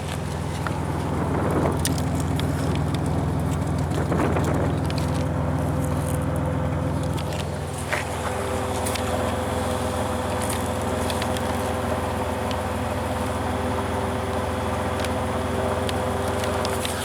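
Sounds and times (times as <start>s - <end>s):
car engine humming with whine: 0.0s - 17.0s.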